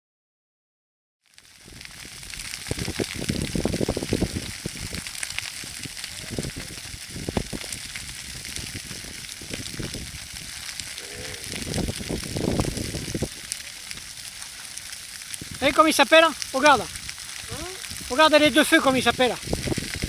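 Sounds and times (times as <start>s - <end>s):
grass fire crackling and hissing: 1.2s - 20.0s
low rumbles: 1.8s - 20.0s.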